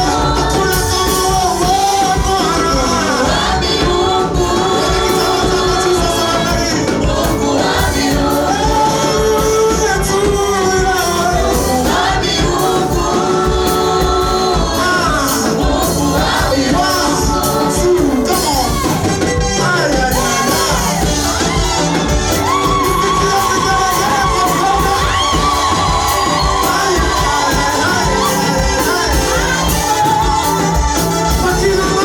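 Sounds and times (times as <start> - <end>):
band playing with steady beat: 0.0 - 32.0
group singing praise music: 0.0 - 32.0.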